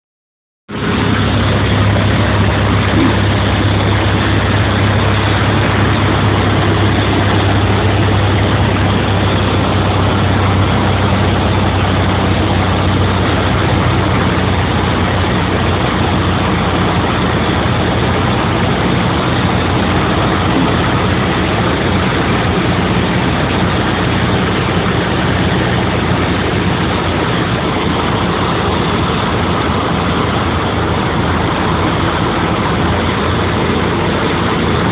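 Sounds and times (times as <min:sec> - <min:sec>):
aircraft engine drone: 0:00.7 - 0:34.9.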